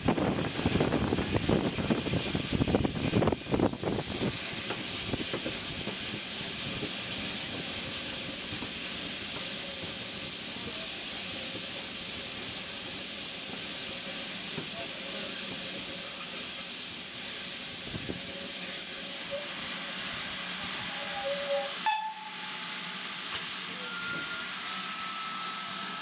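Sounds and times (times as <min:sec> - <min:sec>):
train low rumbling and thumps: 0:00.0 - 0:24.4
high hiss of escaping steam: 0:00.1 - 0:26.0.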